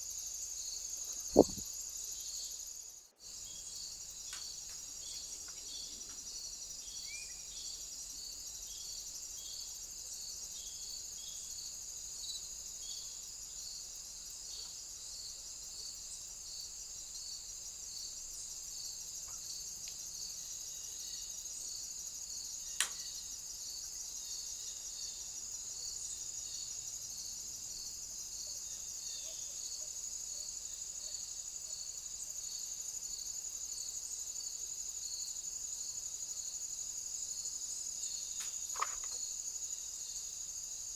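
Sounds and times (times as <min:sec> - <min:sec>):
crickets chirring: 0:00.0 - 0:40.9
repeated insect chirps: 0:00.0 - 0:40.9.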